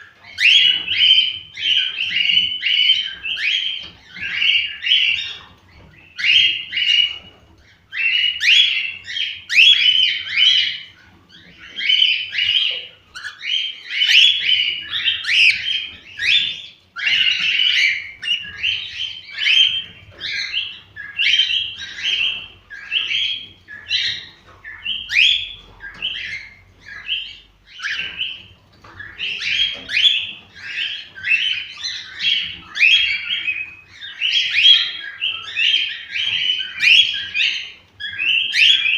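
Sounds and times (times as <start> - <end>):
cockatiels chirping and warbling: 0.0 - 38.9.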